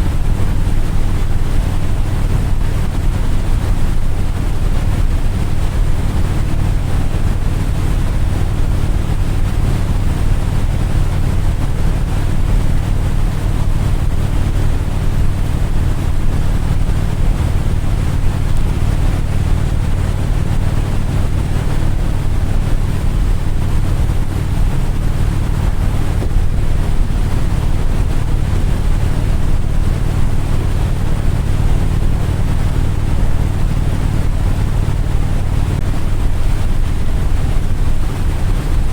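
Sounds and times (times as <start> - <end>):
low engine drone: 0.0 - 38.9
wind rushing over microphone: 0.0 - 38.9.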